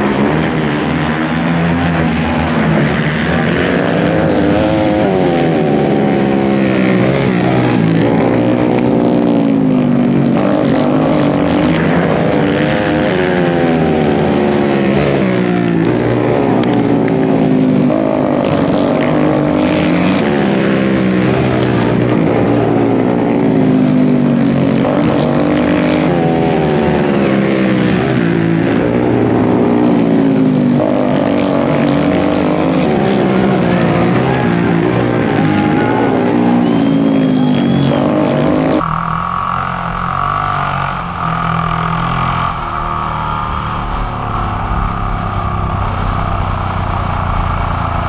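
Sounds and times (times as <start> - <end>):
motorcycle engines revving: 0.0 - 48.0
onboard motorcycle engine: 0.0 - 48.0.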